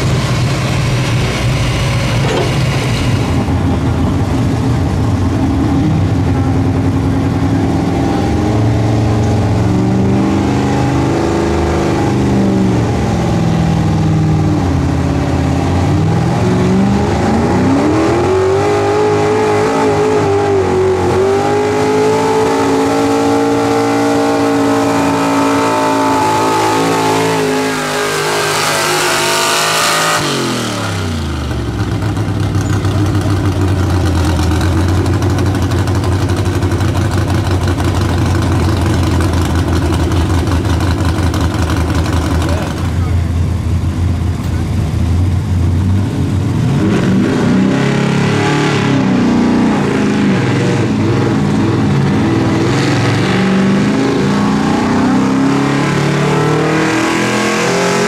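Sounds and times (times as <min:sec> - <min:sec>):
truck engine at full throttle: 0:00.0 - 0:58.0.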